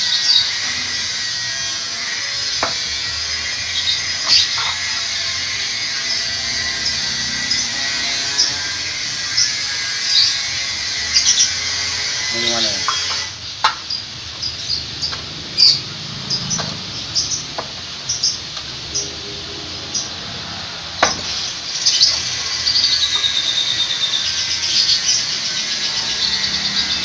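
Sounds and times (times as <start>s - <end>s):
small birds chirping: 0.0s - 20.4s, 21.0s - 27.0s.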